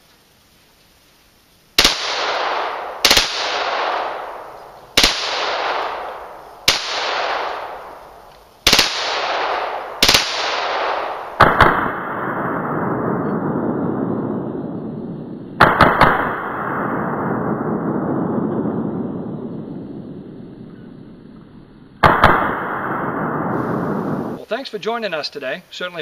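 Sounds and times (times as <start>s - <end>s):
gunshots with long echo: 1.8s - 24.4s.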